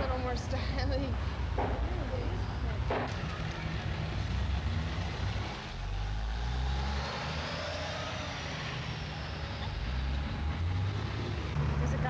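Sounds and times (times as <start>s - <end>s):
city noise hum: 0.0s - 12.0s
vehicle engine rumbling past: 1.1s - 12.0s.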